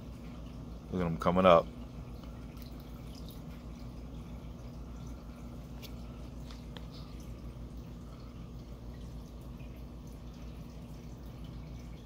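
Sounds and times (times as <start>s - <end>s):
aquarium filter humming: 0.0s - 12.0s
water trickling and dripping: 0.0s - 12.0s.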